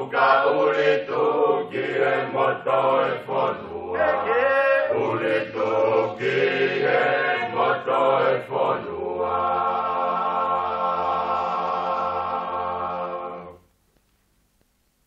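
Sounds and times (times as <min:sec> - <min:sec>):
voices singing in harmony: 0:00.0 - 0:13.6.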